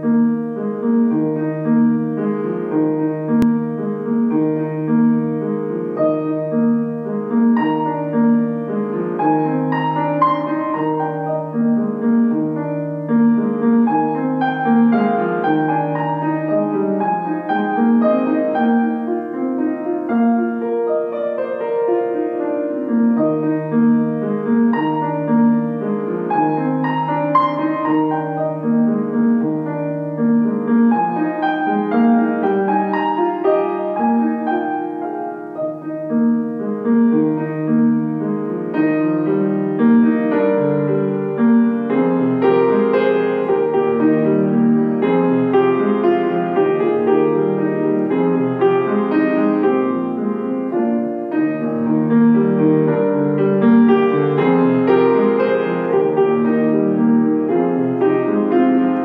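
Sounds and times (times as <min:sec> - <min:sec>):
gentle piano music: 0:00.0 - 0:59.0.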